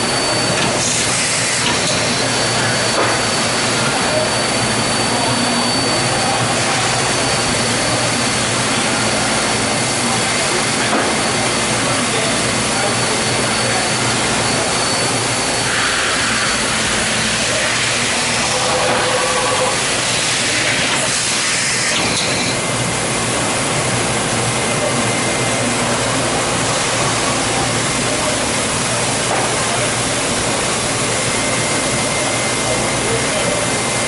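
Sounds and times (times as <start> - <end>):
lathe hissing and whirring: 0.0 - 34.0.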